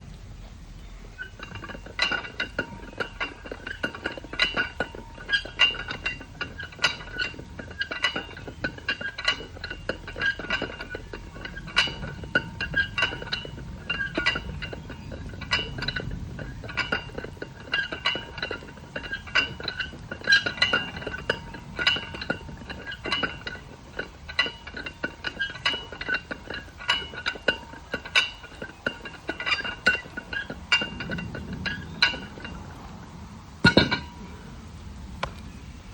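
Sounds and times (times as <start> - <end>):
barbell clinking and rattling: 1.2 - 33.0, 33.6 - 34.3.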